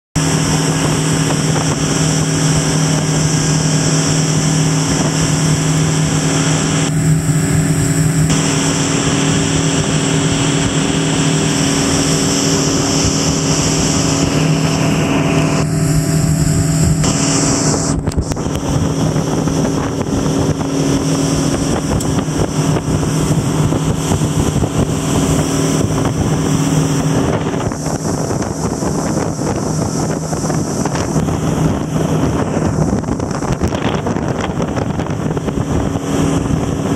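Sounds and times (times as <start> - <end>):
outboard motor running: 0.2 - 36.9
wake rushing: 0.2 - 36.9
wind noise on microphone: 0.2 - 36.9.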